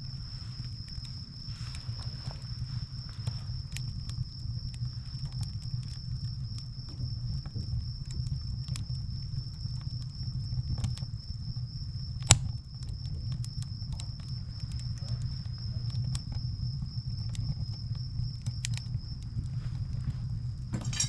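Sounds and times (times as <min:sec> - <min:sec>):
firewood crackling: 0:00.0 - 0:21.0.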